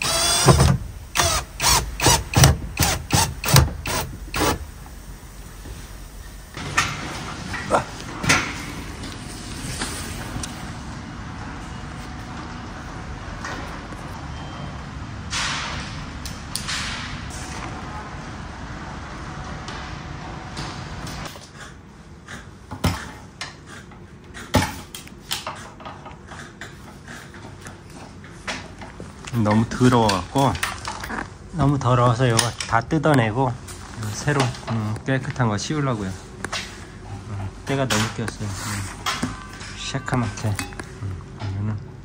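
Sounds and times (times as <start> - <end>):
workshop background noise: 0.0 - 42.0.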